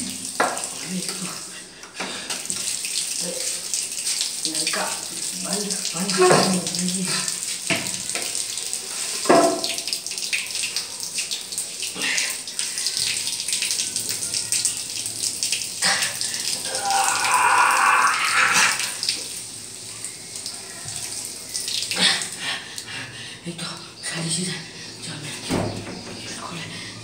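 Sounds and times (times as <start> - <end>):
water running from tap: 0.0 - 27.0.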